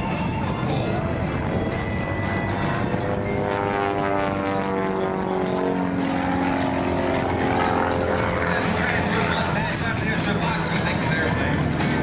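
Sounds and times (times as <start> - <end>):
propeller plane droning past: 0.0 - 12.0.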